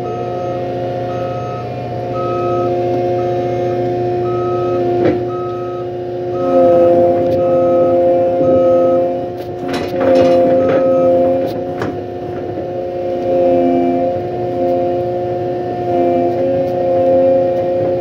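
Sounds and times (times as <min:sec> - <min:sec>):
loader clanks and knocks: 0:00.0 - 0:18.0
skid-steer loader engine drone: 0:00.0 - 0:18.0.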